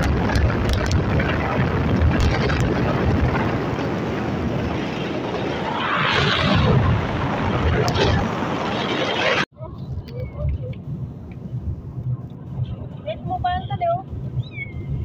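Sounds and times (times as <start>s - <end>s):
car road noise rumble: 0.0s - 15.0s
wind buffeting: 0.0s - 15.0s.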